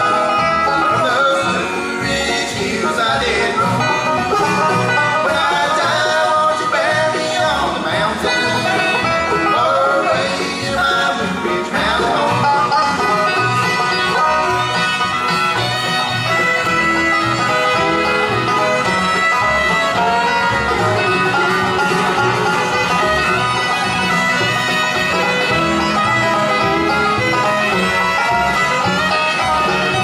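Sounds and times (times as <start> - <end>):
bluegrass band playing: 0.0 - 30.0
upright bass plucking: 0.0 - 30.0.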